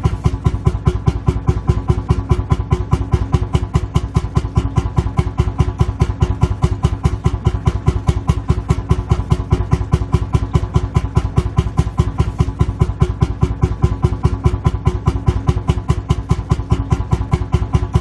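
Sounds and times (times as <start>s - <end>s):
engine idling with even chug: 0.0s - 18.0s.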